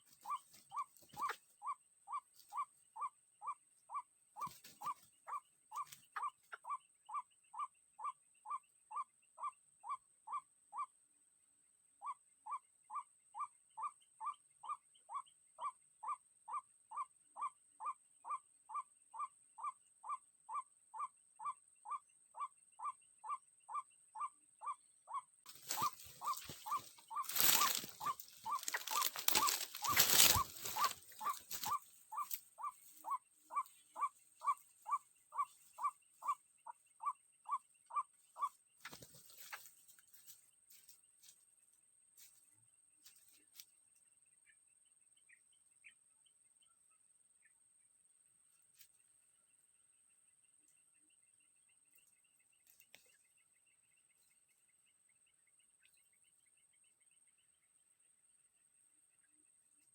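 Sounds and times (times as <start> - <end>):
repeated monotone bird call: 0.0 - 59.9.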